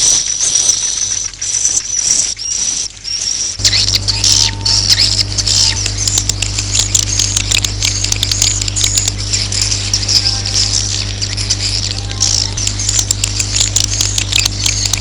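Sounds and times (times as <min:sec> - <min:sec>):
low electrical hum: 0:00.0 - 0:15.0
swiftlets chirping and twittering: 0:00.0 - 0:15.0.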